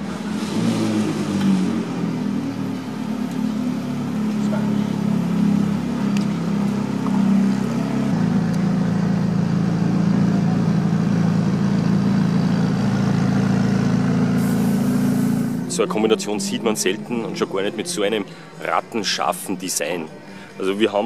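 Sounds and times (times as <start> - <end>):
car engine idling: 0.0 - 20.7.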